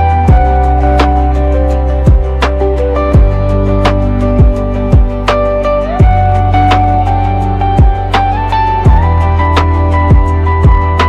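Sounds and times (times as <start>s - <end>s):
background music with beat: 0.0s - 11.0s
plucked guitar: 0.0s - 11.0s.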